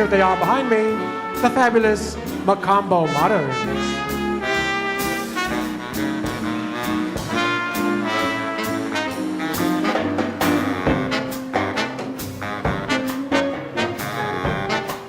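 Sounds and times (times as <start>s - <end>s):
drums beat: 0.0s - 15.0s
swing band with brass section: 0.0s - 15.0s.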